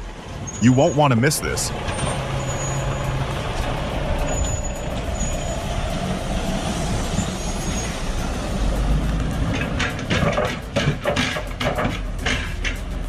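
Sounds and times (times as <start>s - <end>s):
continuous whine: 0.0s - 13.0s
truck engine running: 0.0s - 13.0s.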